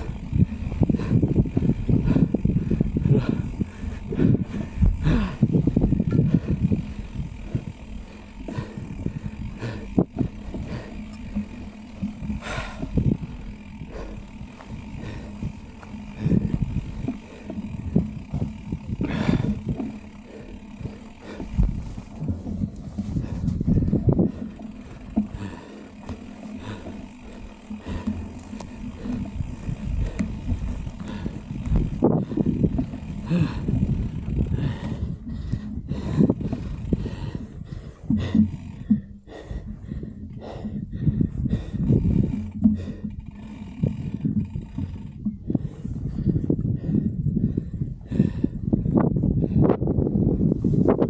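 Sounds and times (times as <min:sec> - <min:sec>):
bike rattling: 0:00.0 - 0:51.0
bike tyres rumbling on dirt trail: 0:00.0 - 0:51.0
wind on microphone: 0:00.0 - 0:51.0.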